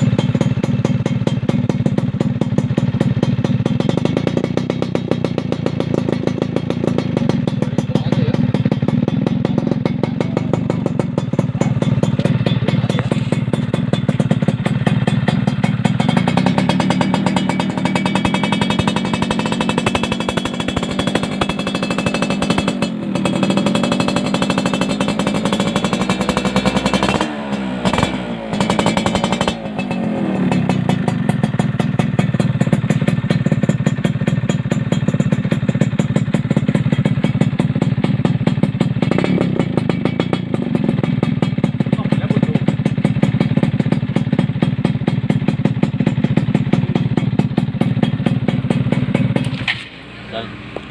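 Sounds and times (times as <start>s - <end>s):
two-stroke engine idling: 0.0s - 50.9s.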